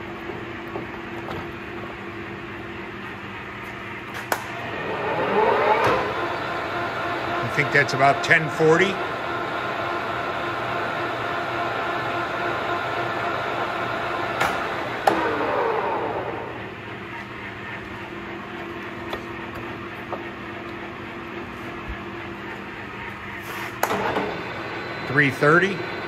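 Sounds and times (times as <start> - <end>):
lathe gear whine: 4.5 - 26.0.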